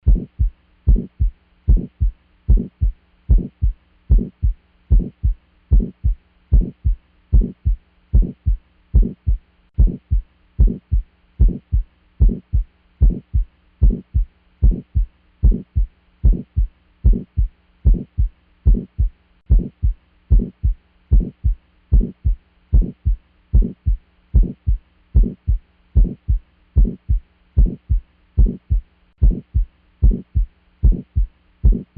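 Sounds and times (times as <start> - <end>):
faint steady hum: 0.0 - 31.9
heartbeat through stethoscope: 0.0 - 31.9.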